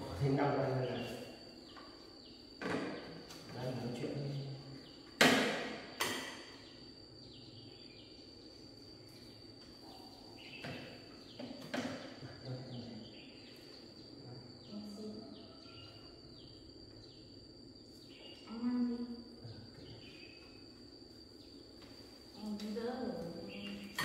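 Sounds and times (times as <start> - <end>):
high insect drone: 0.0 - 24.0.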